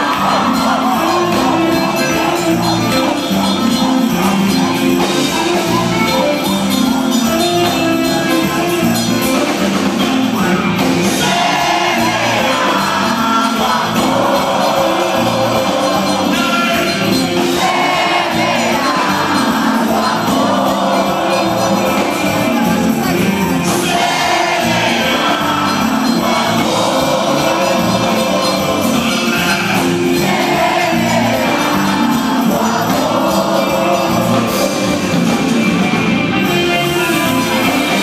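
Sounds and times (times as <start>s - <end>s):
live band playing: 0.0s - 38.0s.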